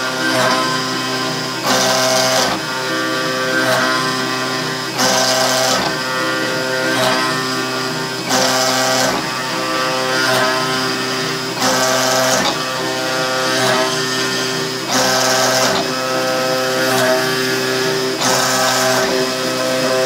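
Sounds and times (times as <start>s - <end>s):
milling machine motor whine: 0.0s - 20.0s.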